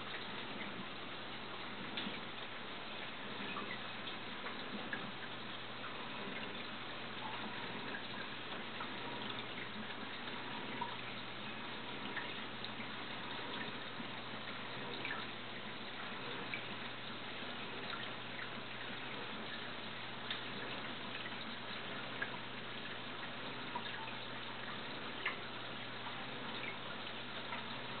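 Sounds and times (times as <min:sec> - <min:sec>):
aquarium water trickling: 0:00.0 - 0:28.0
drip-like ticks: 0:00.0 - 0:28.0
low steady hum: 0:00.0 - 0:28.0.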